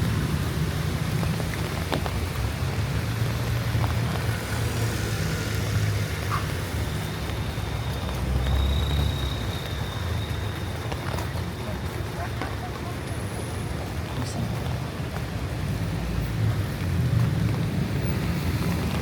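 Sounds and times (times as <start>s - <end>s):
heavy rain on a street: 0.0s - 19.0s
traffic rumble: 0.0s - 19.0s.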